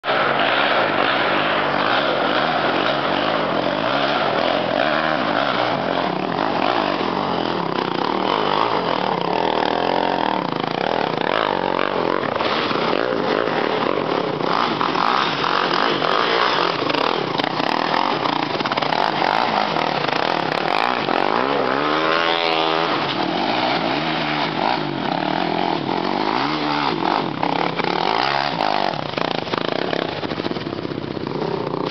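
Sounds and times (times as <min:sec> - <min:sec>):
atv engines revving hard: 0:00.0 - 0:31.9.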